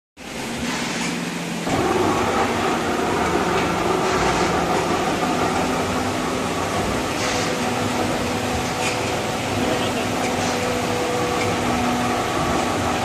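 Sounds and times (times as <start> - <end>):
tyre buffing machine humming: 1.6 - 13.0.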